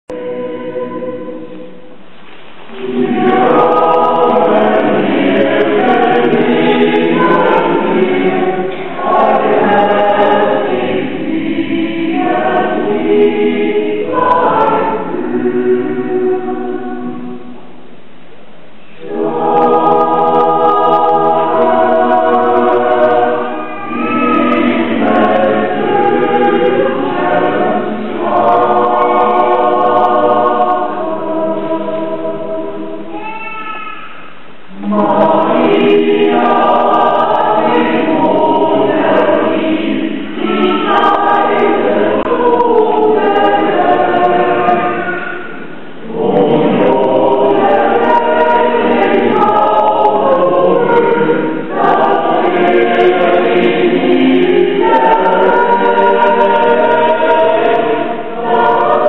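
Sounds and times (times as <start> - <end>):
small mixed choir singing: 0.0 - 18.0, 18.8 - 59.0.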